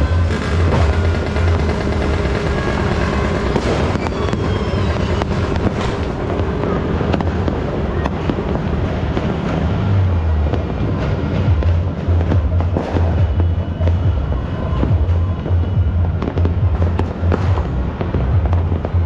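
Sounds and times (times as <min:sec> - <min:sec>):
distant fireworks bangs: 0:00.0 - 0:19.0
firecrackers crackling: 0:00.0 - 0:19.0.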